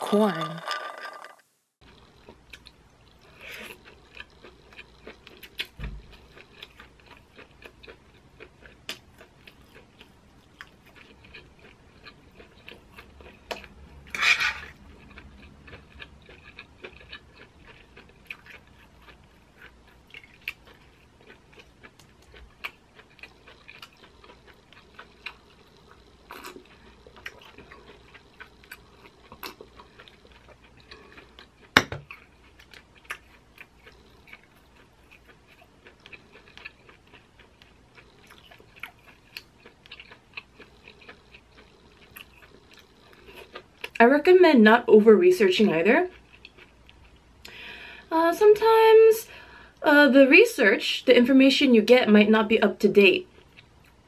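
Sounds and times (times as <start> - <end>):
person chewing food: 1.8 - 44.0, 46.0 - 48.1, 53.2 - 54.0.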